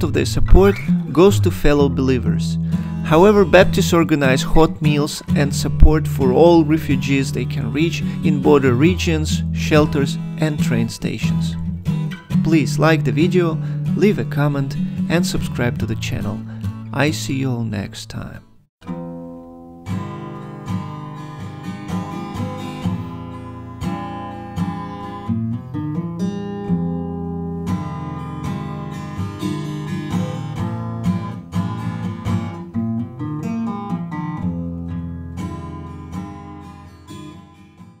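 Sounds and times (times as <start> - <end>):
acoustic guitar music: 0.0 - 38.0.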